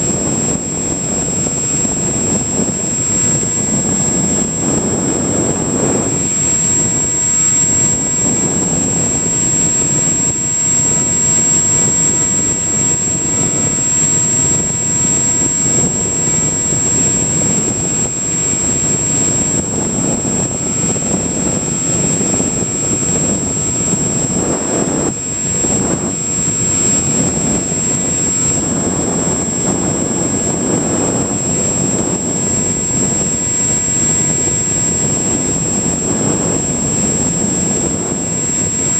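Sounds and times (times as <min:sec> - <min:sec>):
air rushing over microphone: 0:00.0 - 0:38.9
electric motor and propeller drone: 0:00.0 - 0:38.9
high-pitched whine: 0:00.0 - 0:38.9.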